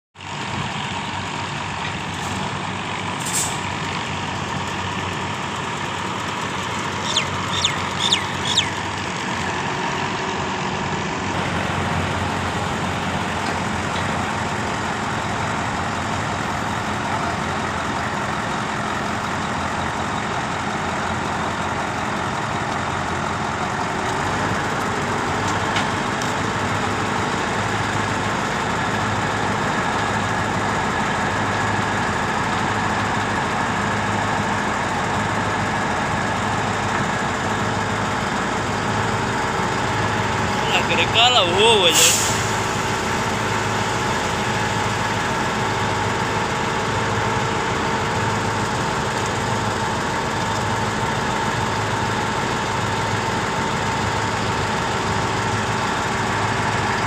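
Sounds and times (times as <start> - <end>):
diesel engine running: 0.2 - 57.0.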